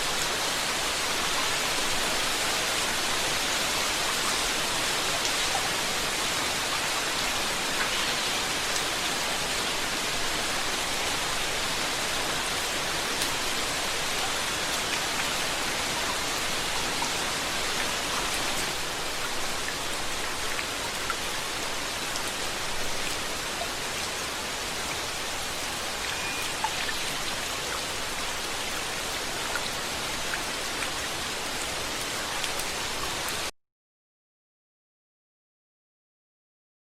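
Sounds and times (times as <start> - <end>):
steady rainfall: 0.0 - 33.5.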